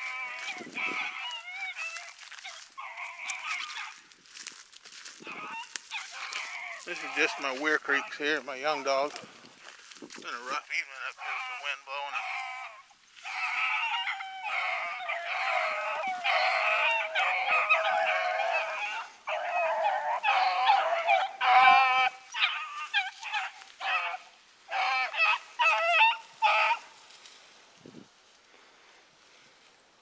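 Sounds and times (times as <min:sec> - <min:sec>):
hound baying: 0:00.0 - 0:27.0.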